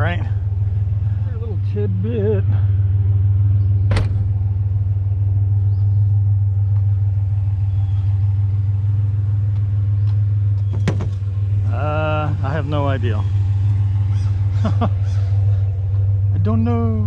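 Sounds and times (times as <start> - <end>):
pickup truck engine droning: 0.0 - 17.0.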